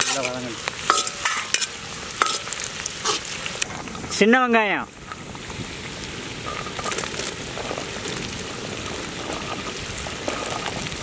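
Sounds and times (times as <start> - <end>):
small crackles: 0.0 - 4.2, 5.1 - 11.0
hot oil sizzling in a wok: 0.0 - 11.0.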